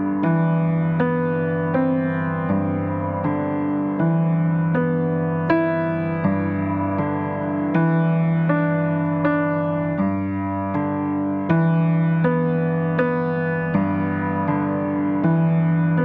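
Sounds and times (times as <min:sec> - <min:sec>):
slow piano-like chords: 0:00.0 - 0:16.0.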